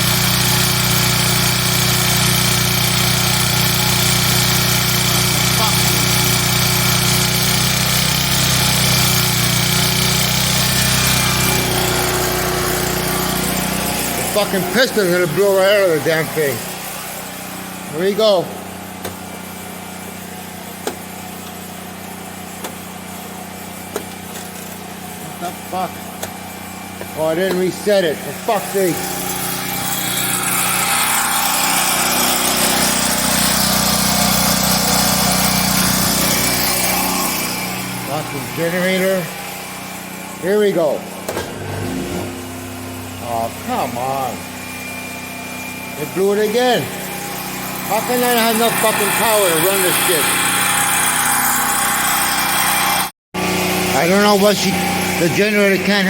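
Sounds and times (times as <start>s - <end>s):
generator engine running hard: 0.0s - 56.0s.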